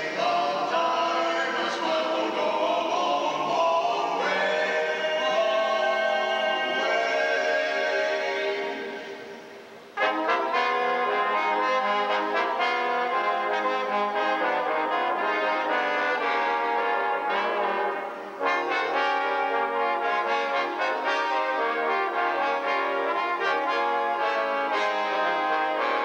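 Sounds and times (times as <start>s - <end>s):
brass quartet playing a tune: 0.0s - 26.0s.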